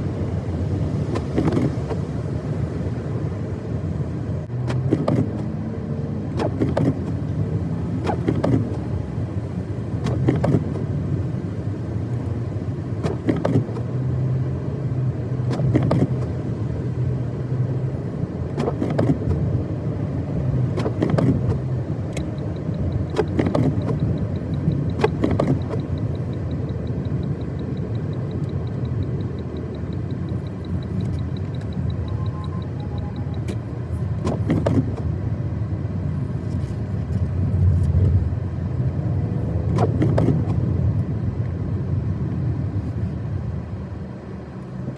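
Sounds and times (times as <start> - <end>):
car engine and tyres on snow: 0.0 - 44.9.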